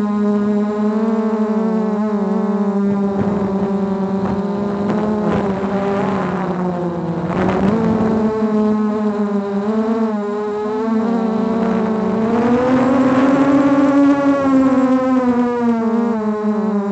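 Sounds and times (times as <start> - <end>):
drone propellers whirring: 0.6 - 16.9.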